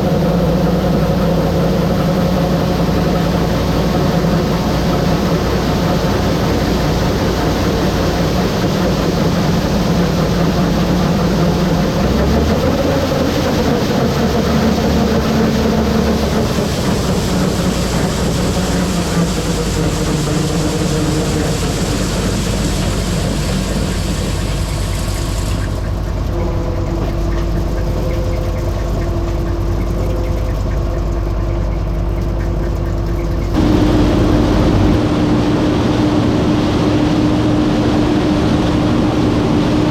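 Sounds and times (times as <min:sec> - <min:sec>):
heavy machinery engines running: 0:00.0 - 0:39.9
louder engine: 0:00.0 - 0:39.9.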